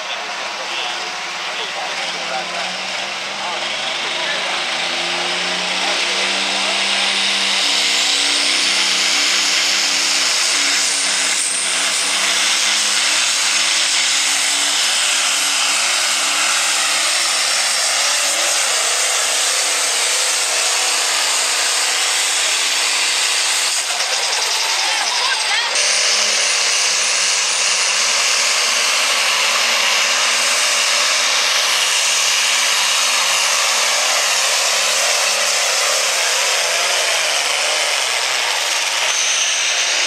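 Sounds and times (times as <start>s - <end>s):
tractor diesel engine screaming: 0.0s - 40.0s.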